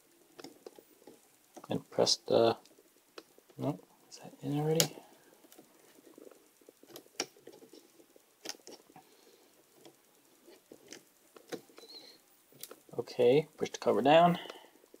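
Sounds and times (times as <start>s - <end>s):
faint scratching: 0.1s - 15.0s.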